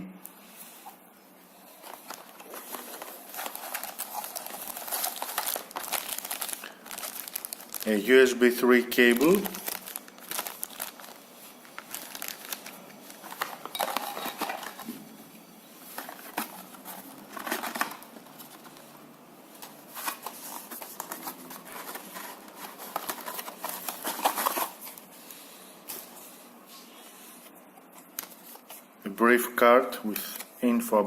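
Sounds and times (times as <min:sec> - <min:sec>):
packaging crinkling and rustling: 0:01.6 - 0:28.9.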